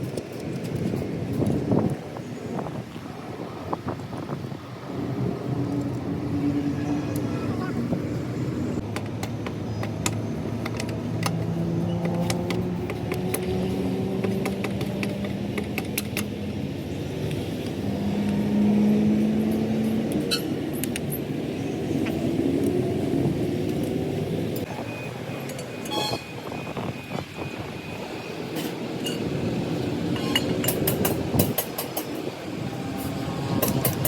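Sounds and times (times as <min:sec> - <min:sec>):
engines humming: 0:00.0 - 0:34.0.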